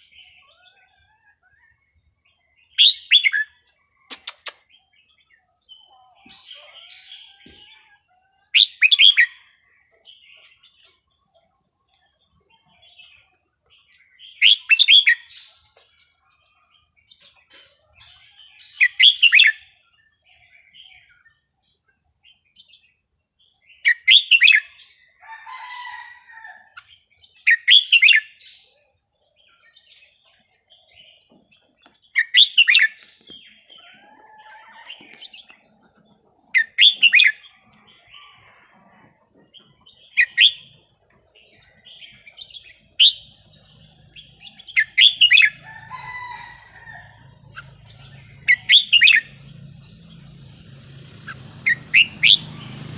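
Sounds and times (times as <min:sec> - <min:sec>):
bird singing loud phrases: 0:00.0 - 0:15.8, 0:18.0 - 0:25.5, 0:26.2 - 0:38.6, 0:39.4 - 0:52.9.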